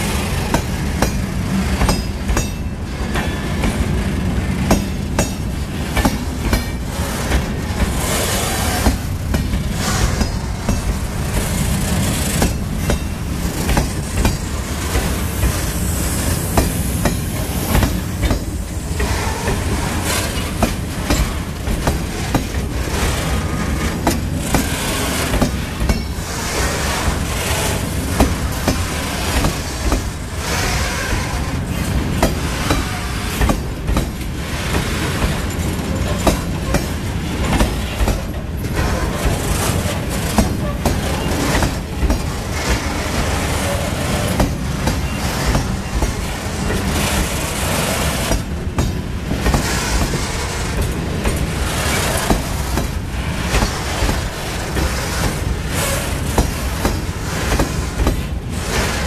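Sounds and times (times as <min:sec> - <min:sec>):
train wagons clicking and clanking: 0:00.0 - 0:59.0
train wheels rumbling on rail: 0:00.0 - 0:59.0.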